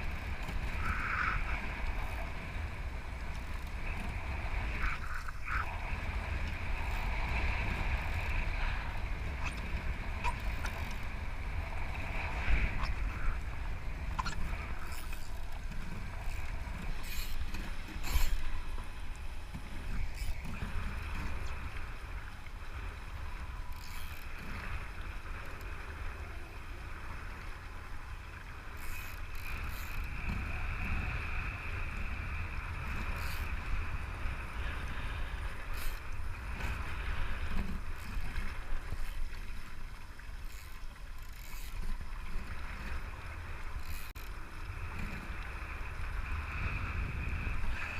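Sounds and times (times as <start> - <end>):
wind buffeting microphone: 0.0 - 39.7, 41.4 - 47.9.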